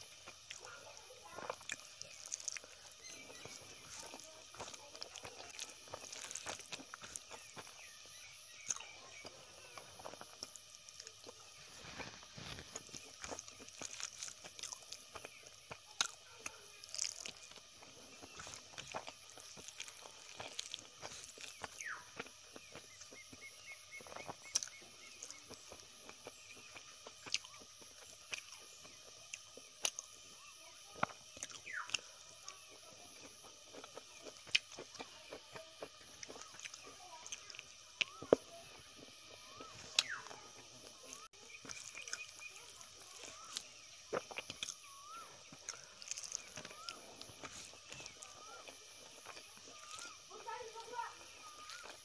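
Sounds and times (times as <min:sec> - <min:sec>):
person chewing: 0:00.0 - 0:52.0.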